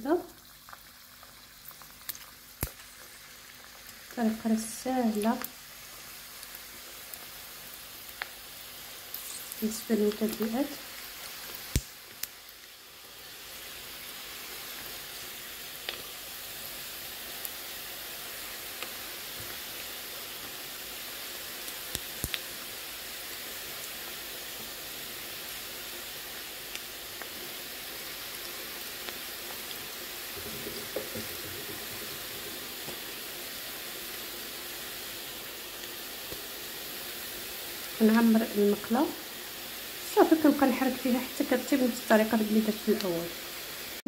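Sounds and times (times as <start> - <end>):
dough deep-frying in oil: 0.0 - 44.0
oil popping and crackling: 0.2 - 38.1.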